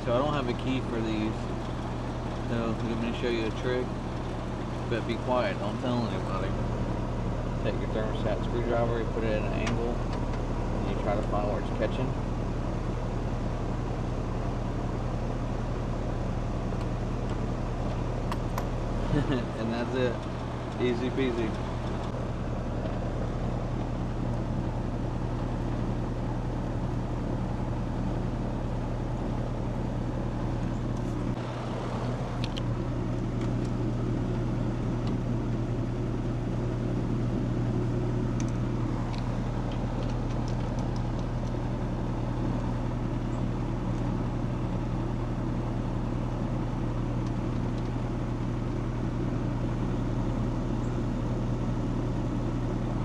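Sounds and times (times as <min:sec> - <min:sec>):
air conditioner compressor hum: 0:00.0 - 0:53.0.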